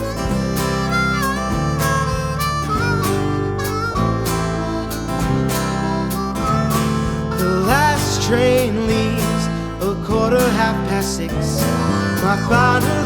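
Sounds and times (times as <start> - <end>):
harmonica melody: 0.0 - 13.0
strummed acoustic guitar: 0.0 - 13.0.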